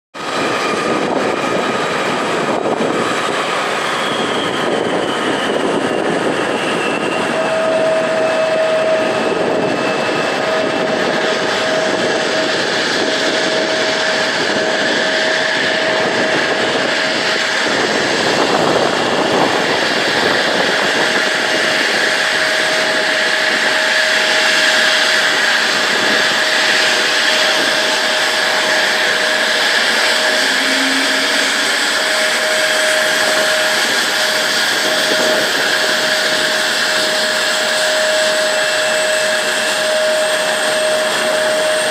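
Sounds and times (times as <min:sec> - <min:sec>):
jet engines roaring and whining: 0:00.1 - 0:41.9.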